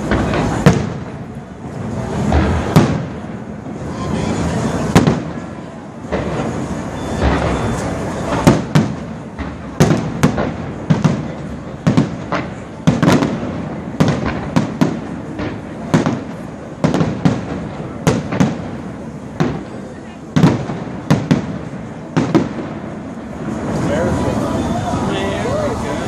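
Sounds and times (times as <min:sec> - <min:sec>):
firework shell bursts booming: 0:00.0 - 0:04.0, 0:04.6 - 0:23.8
fireworks crackle: 0:00.0 - 0:26.0.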